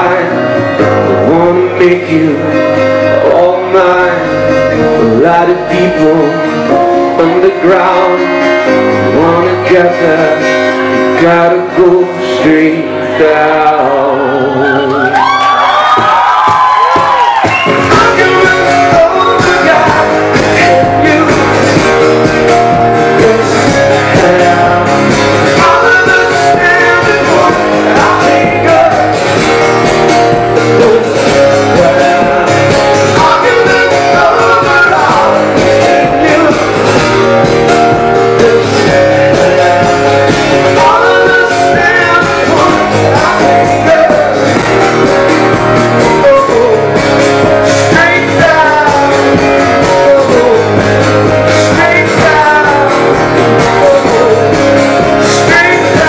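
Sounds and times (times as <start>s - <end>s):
person singing: 0.0s - 16.1s, 16.8s - 56.0s
rock band playing: 0.0s - 56.0s.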